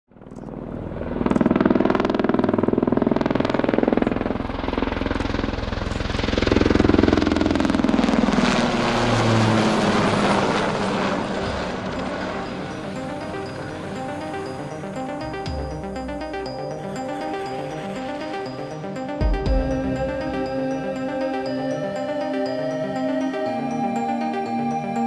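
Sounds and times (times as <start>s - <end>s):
helicopter rotor beating: 0.1s - 25.0s.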